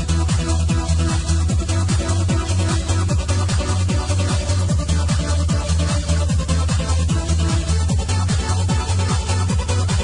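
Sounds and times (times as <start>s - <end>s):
electronic dance music: 0.0s - 10.0s
steady kick drum: 0.0s - 10.0s
sustained bass line: 0.0s - 10.0s.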